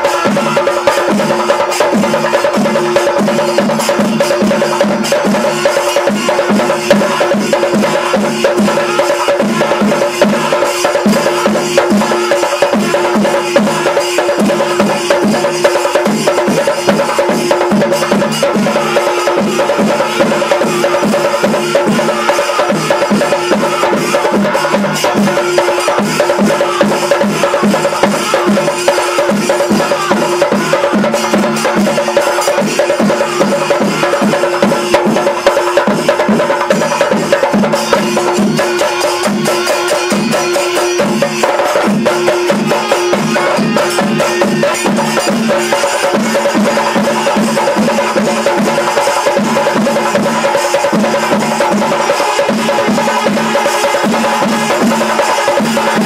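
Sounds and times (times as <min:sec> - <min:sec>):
drums beating fast rhythm: 0:00.0 - 0:56.0.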